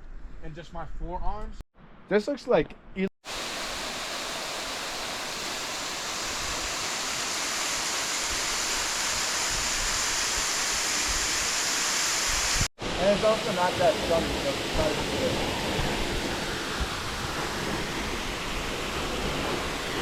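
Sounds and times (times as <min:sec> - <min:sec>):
rush of fast-running water: 0:03.2 - 0:20.0.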